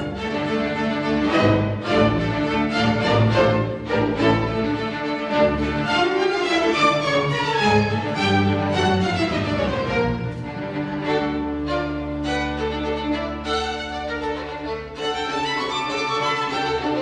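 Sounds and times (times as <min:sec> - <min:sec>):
low cellos and basses: 0:00.0 - 0:17.0
violins playing falling line: 0:00.0 - 0:17.0.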